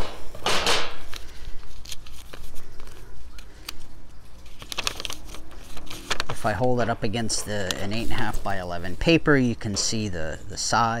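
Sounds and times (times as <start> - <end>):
paper rustling: 0.5 - 10.7.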